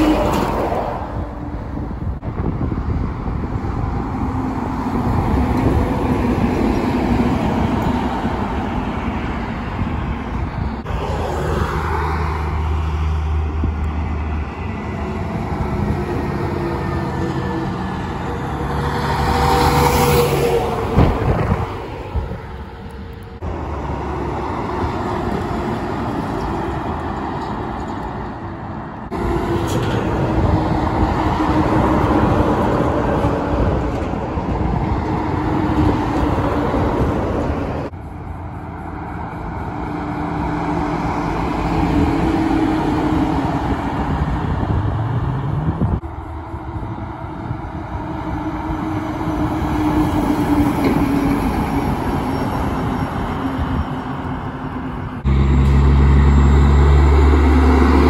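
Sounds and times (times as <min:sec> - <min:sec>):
heavy trucks driving past: 0:00.0 - 0:58.0
truck accelerating: 0:00.0 - 0:58.0.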